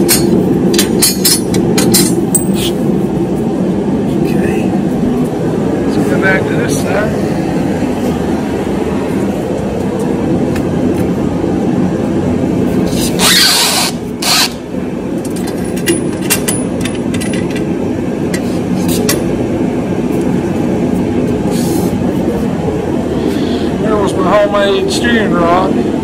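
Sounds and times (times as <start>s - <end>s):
steady low drone: 0.0s - 26.0s.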